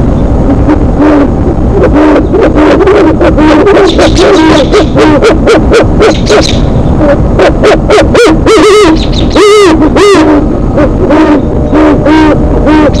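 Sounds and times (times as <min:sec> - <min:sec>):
owls hooting: 0:00.5 - 0:13.0
sharp high owl calls: 0:00.6 - 0:13.0.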